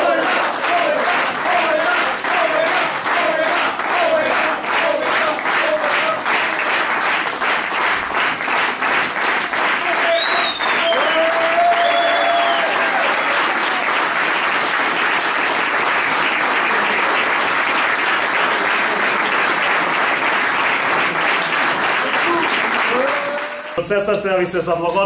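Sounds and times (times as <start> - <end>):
people applauding: 0.0 - 24.4.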